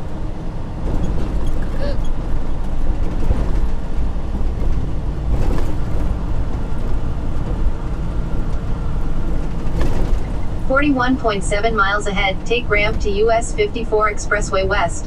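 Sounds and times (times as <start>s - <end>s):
tyre and road noise: 0.0s - 14.6s
truck engine rumble: 0.0s - 15.0s.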